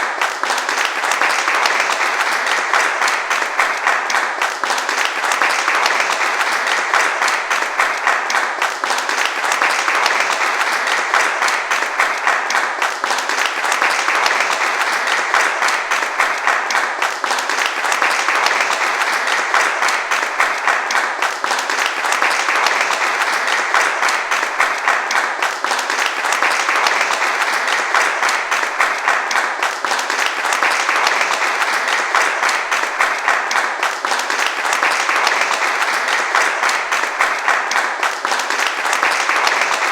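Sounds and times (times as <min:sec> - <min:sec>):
crowd applauding: 0:00.0 - 0:39.9.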